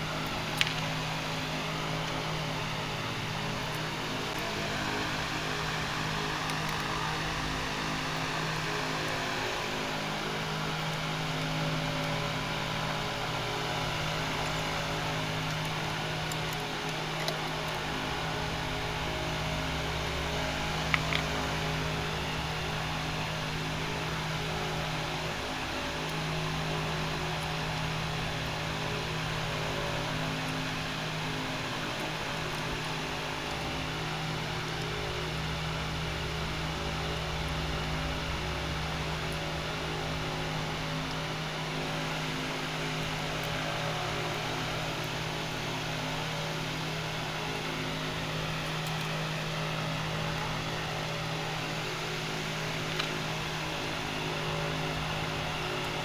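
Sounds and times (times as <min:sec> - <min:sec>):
fan motor whirring hum: 0:00.0 - 0:56.0.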